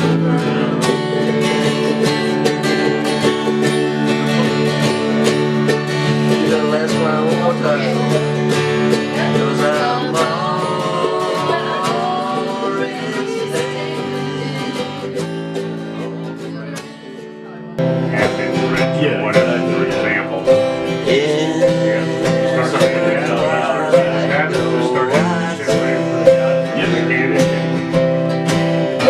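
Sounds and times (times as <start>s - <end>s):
acoustic guitars playing a tune: 0.0s - 29.0s.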